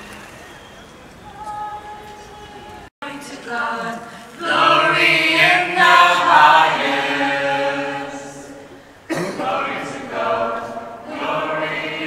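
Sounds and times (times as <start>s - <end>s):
choir singing long notes: 1.2s - 12.0s.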